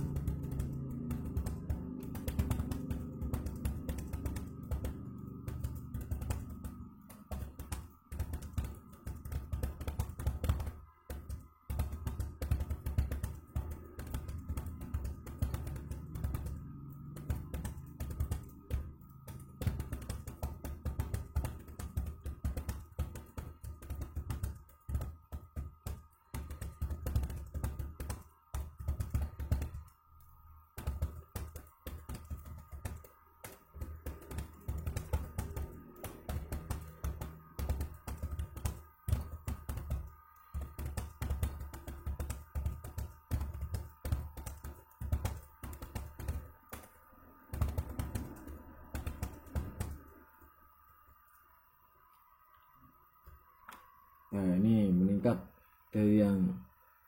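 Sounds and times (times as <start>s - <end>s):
background music: 0.0s - 50.4s
rapid keyboard typing: 0.0s - 51.5s.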